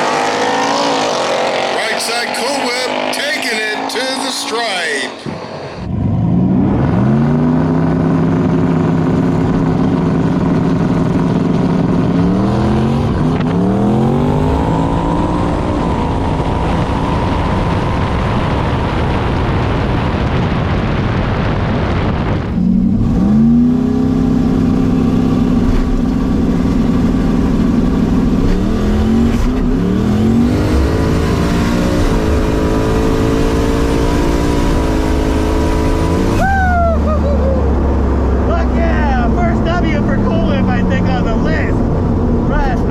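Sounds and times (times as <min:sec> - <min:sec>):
drag car engine revving: 0:00.0 - 0:20.8, 0:21.4 - 0:42.9.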